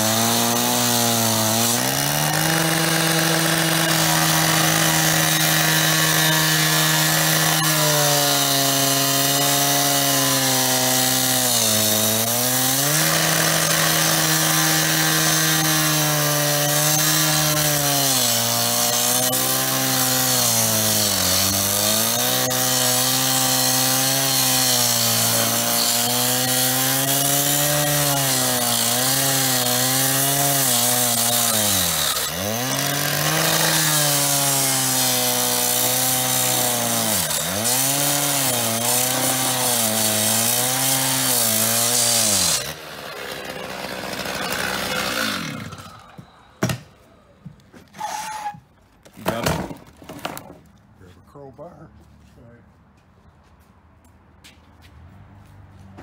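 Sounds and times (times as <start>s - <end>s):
power saw cutting metal: 0.0s - 47.2s, 47.9s - 48.6s.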